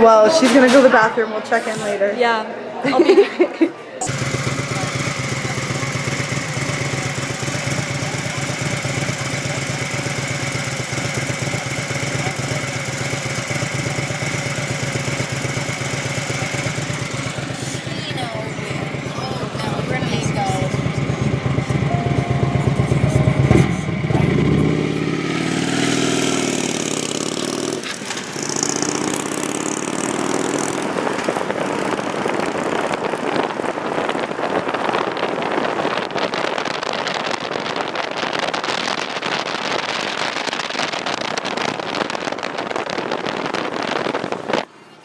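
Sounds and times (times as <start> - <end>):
car road and wind noise: 4.0 - 45.0
engine hum: 4.0 - 45.0.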